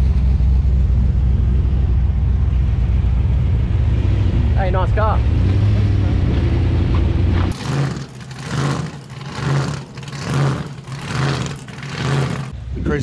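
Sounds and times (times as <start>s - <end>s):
pulsing quiet rumble: 0.0s - 12.9s
car engine idling: 0.0s - 13.0s.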